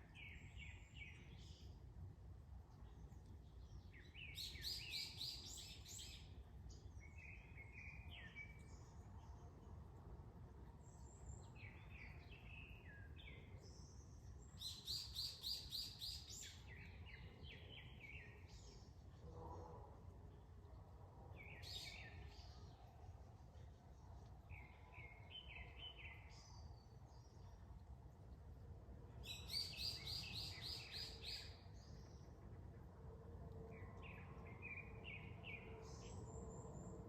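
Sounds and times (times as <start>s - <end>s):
songbirds singing and chirping: 0.0s - 37.0s.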